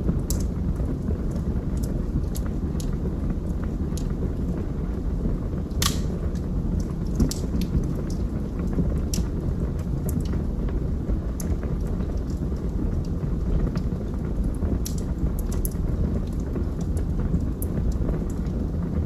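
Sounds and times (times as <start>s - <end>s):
wood fire roaring and crackling: 0.0s - 19.0s.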